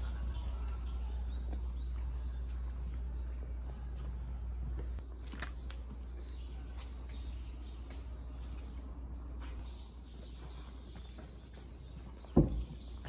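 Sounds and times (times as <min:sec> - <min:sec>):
low steady rumble: 0:00.0 - 0:11.4.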